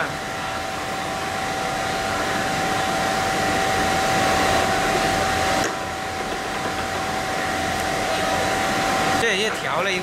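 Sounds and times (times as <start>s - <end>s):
factory machinery whirring: 0.0s - 10.0s.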